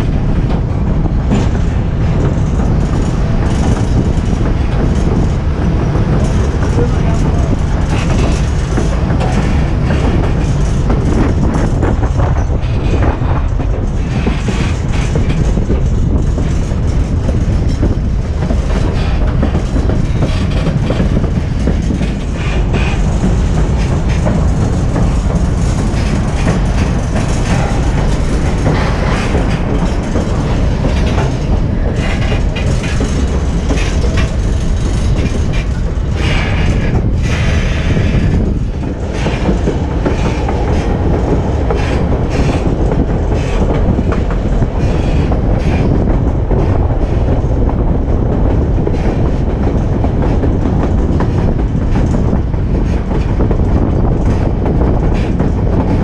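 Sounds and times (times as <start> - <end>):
train rumbling on track: 0.0 - 56.0
wheels clicking over rail: 0.0 - 56.0.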